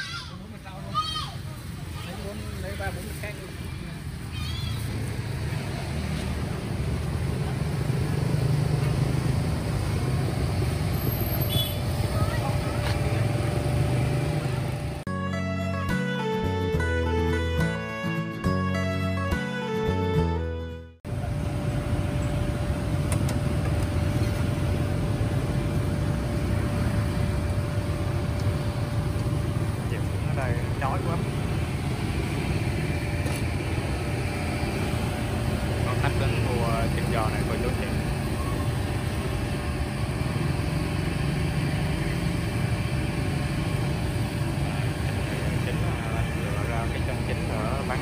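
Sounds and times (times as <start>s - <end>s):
street traffic rumble: 0.0s - 48.0s
motorbikes passing: 0.5s - 15.1s, 21.1s - 48.0s.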